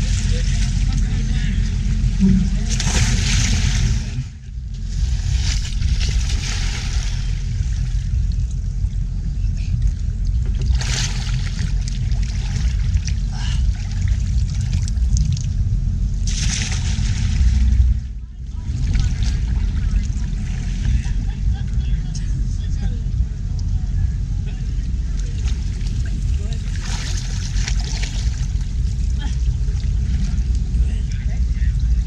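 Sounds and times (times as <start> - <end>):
water splashing and sloshing: 0.0 - 21.8, 24.6 - 32.0
steady low rumble: 0.0 - 32.0.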